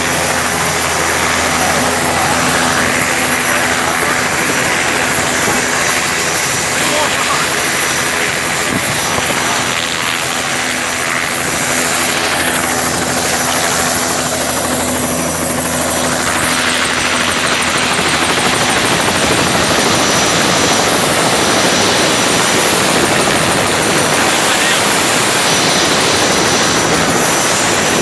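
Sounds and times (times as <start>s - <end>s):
helicopter rotor and turbine: 0.0s - 28.0s.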